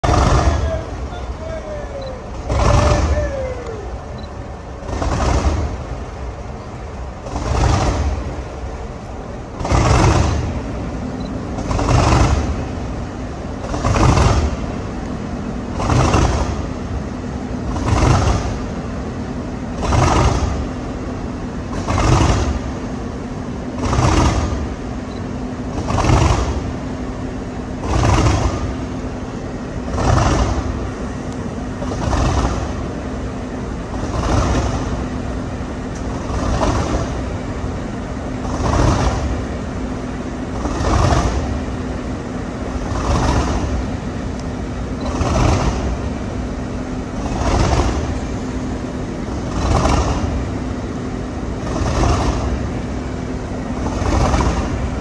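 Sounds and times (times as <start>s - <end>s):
diesel locomotive engine running: 0.0s - 55.0s
steady hum: 0.0s - 55.0s.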